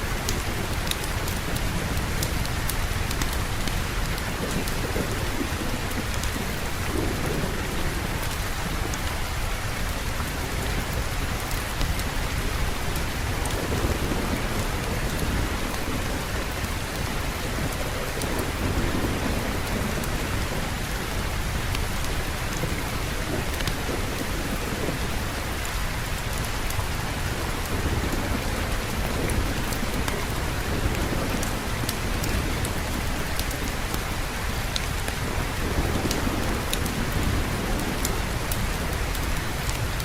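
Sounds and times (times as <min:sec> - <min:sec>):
low thunder rumble: 0:00.0 - 0:40.0
rainfall: 0:00.0 - 0:40.0.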